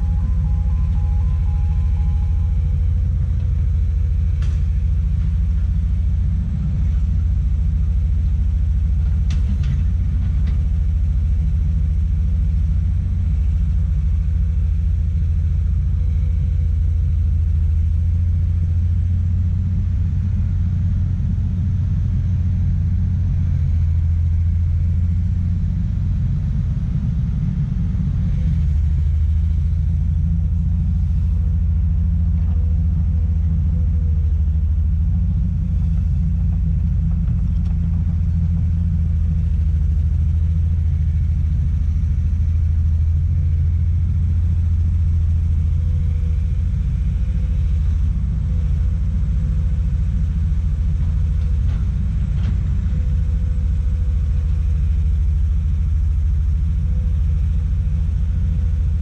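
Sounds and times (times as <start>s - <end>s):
excavator diesel engine rumbling: 0.0s - 59.0s.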